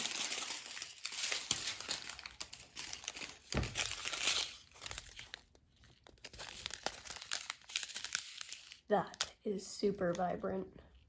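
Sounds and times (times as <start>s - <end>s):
plastic bags crinkling: 0.0s - 9.4s.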